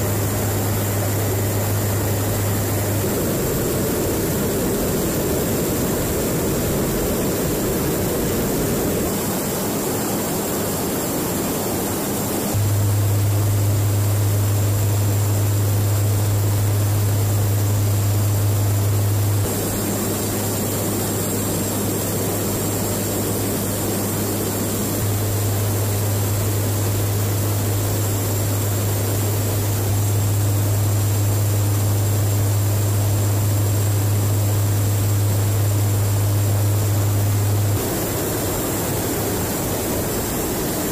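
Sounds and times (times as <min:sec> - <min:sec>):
aircraft cabin engine drone: 0:00.0 - 0:40.9
low propeller hum: 0:00.0 - 0:40.9.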